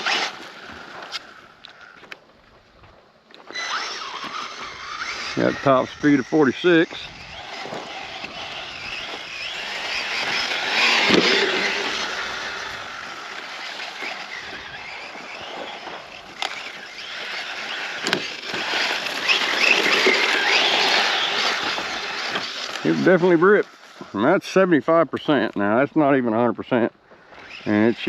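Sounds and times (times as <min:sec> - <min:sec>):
tyres churning sand: 0:00.0 - 0:01.6, 0:03.4 - 0:28.0
electric motor whining: 0:00.0 - 0:02.1, 0:03.4 - 0:24.2.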